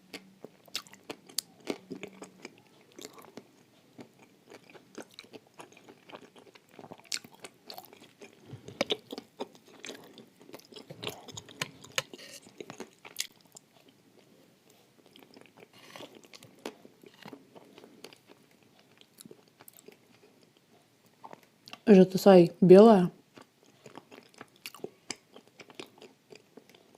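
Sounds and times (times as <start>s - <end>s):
person crunching and chewing clay: 0.0s - 14.3s, 15.0s - 21.8s, 23.3s - 26.9s.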